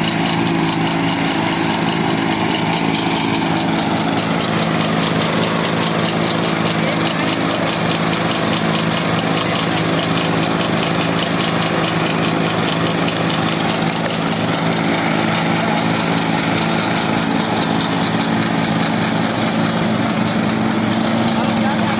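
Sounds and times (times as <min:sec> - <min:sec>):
lawn mower engine running: 0:00.0 - 0:21.9.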